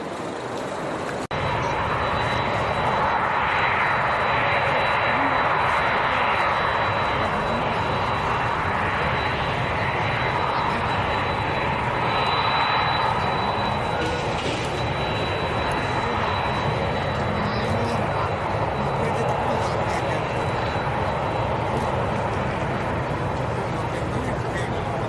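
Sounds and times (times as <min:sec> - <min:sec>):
aircraft engine noise: 0:00.0 - 0:25.0
thin high whine: 0:01.4 - 0:22.6.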